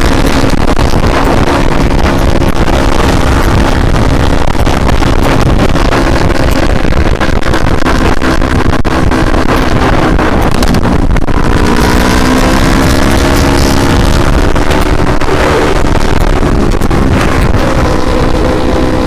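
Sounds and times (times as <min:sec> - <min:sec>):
motorcycle engine accelerating: 0:00.0 - 0:19.0
wind buffeting microphone: 0:00.0 - 0:19.0.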